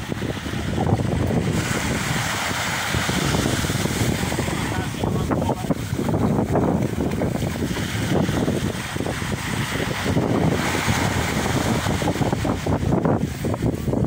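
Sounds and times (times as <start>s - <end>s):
small waves breaking on sand: 0.0s - 14.0s
wind buffeting microphone: 0.0s - 14.0s.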